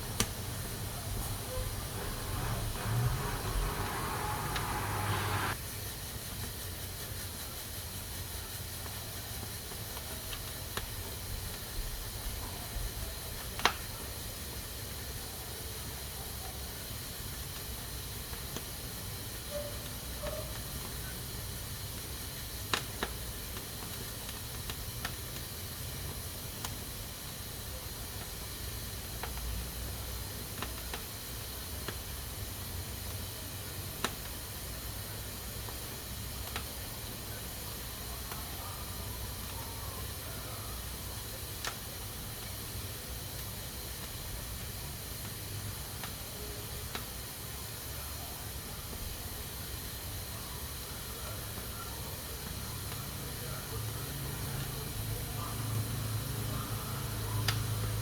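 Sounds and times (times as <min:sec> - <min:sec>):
pressure cooker hissing: 0:00.0 - 0:58.0.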